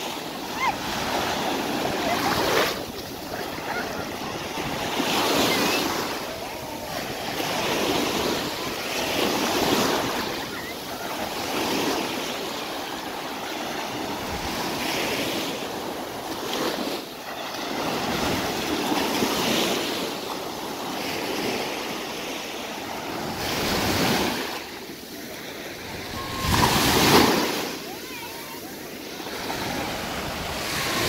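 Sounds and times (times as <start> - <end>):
surf washing onto sandy beach: 0.0 - 31.0.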